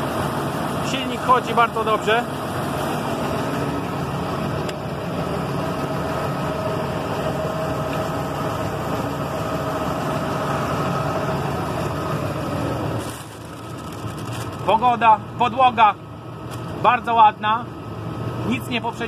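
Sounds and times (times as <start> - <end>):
faint steady whine: 0.0 - 19.0
tractor diesel engine idling: 0.0 - 19.0.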